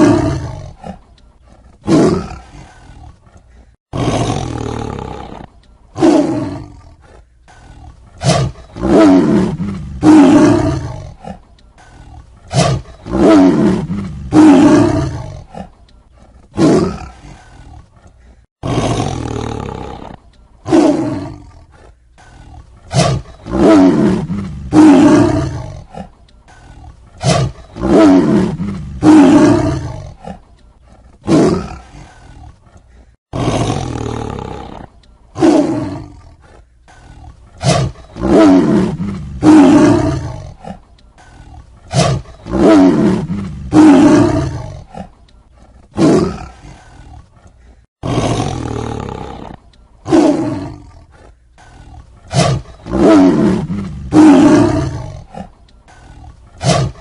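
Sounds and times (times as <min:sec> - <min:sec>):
tiger roaring: 0:00.0 - 0:57.0.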